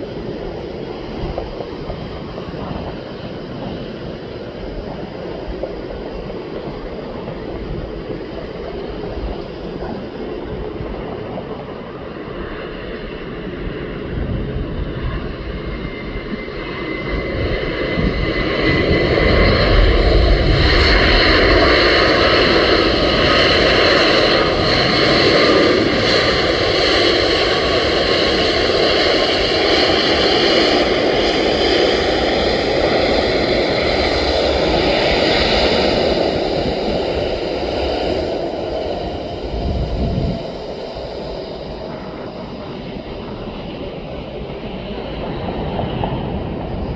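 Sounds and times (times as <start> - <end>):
high-pitched engine whine: 0.0 - 46.9
jet engines roaring: 0.0 - 46.9.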